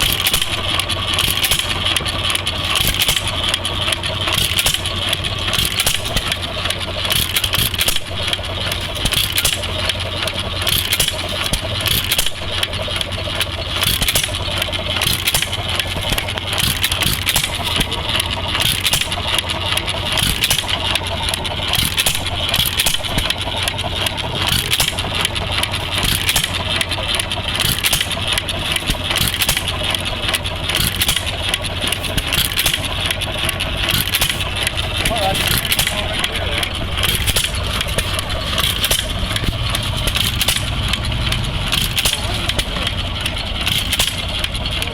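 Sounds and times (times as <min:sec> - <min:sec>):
flywheel clatter: 0:00.0 - 0:44.9
stationary engine firing beats: 0:00.0 - 0:44.9.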